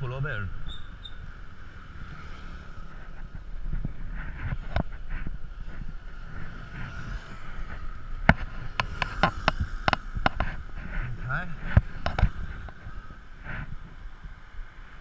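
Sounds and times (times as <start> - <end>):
motor scooter engine rumble: 0.0 - 15.0
wind on camera: 0.0 - 15.0.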